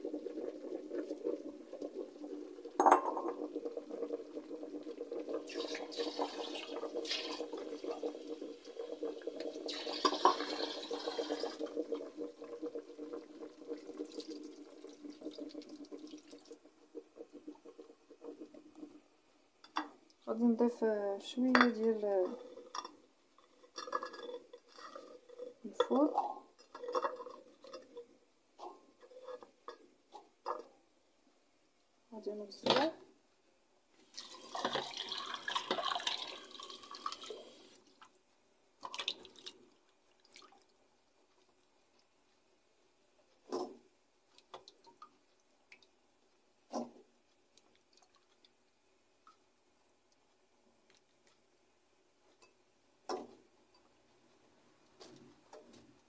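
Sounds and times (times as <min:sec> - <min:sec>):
pot of broth bubbling: 0:00.0 - 0:20.6, 0:21.2 - 0:31.8, 0:32.8 - 0:56.0.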